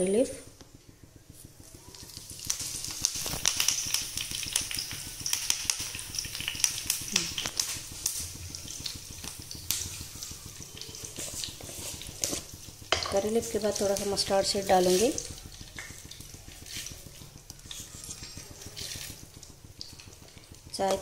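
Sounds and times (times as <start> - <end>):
leaves sizzling in hot oil: 0.0 - 21.0
spattering oil pops: 1.4 - 21.0.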